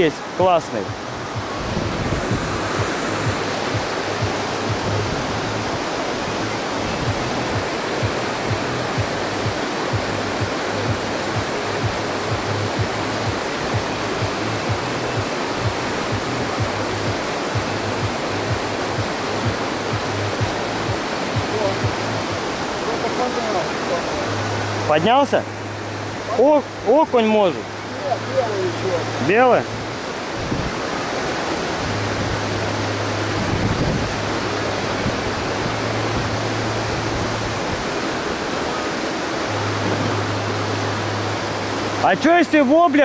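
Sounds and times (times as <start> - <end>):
water rushing through a dam: 0.0 - 43.0.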